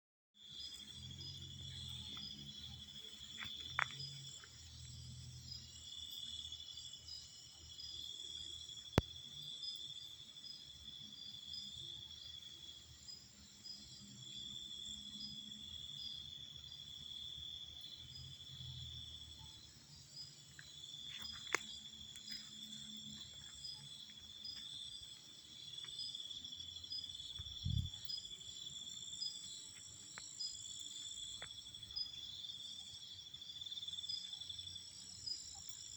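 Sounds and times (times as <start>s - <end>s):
crickets chirping: 0.4s - 35.9s.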